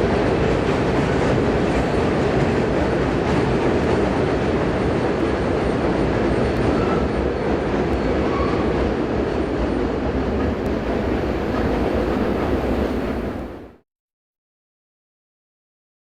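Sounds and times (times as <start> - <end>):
train rumbling by: 0.0 - 13.8.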